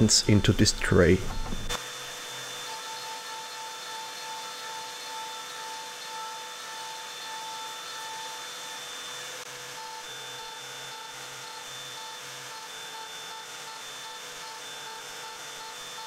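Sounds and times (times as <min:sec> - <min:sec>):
router spindle and vacuum whine: 0:00.0 - 0:16.0.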